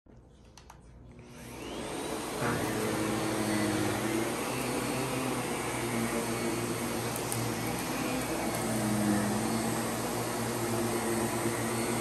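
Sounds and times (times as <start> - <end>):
vacuum cleaner motor whining: 1.2 - 12.0.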